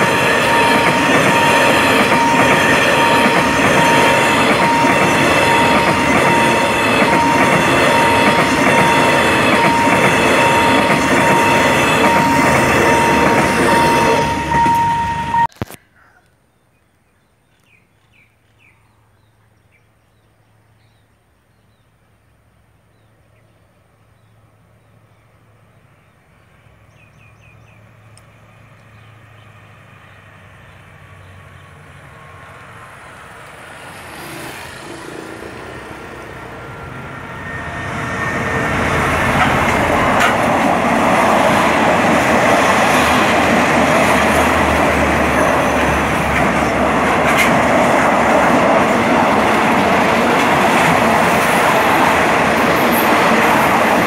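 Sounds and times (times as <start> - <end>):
train passing: 0.0 - 15.5, 24.2 - 54.0.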